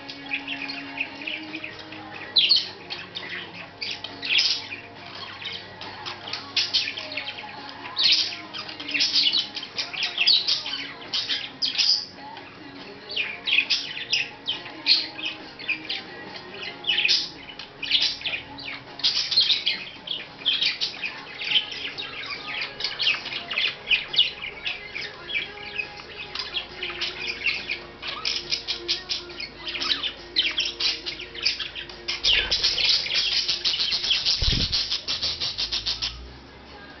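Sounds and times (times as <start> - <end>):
budgerigar chirping and chattering: 0.0 - 36.3.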